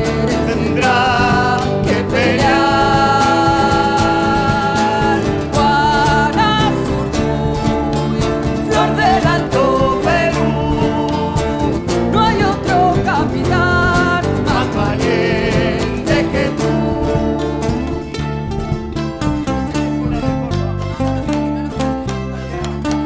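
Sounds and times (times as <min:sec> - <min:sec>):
guitars strumming: 0:00.0 - 0:23.0.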